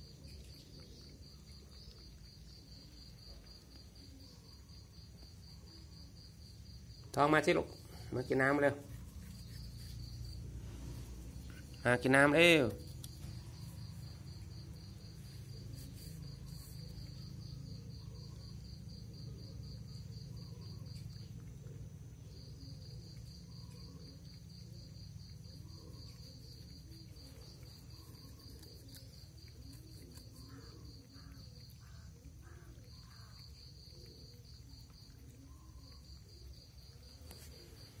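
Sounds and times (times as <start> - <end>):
faint low hum: 0.0 - 38.0
insect trilling: 0.0 - 38.0.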